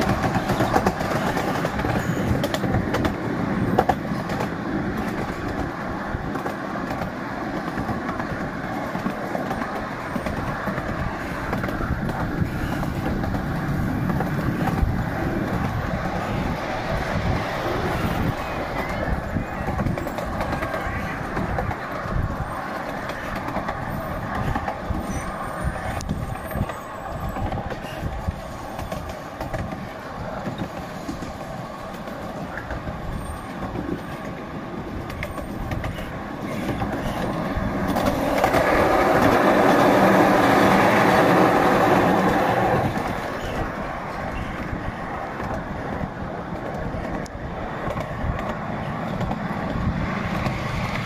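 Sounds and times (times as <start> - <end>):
miniature train wheels clattering: 0.0 - 15.8, 18.2 - 43.6.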